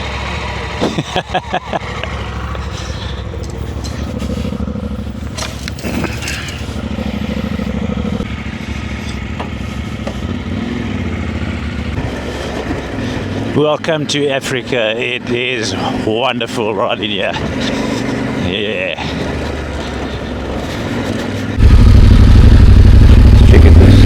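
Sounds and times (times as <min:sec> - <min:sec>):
motorcycle engine running: 0:00.0 - 0:13.5, 0:17.4 - 0:24.0.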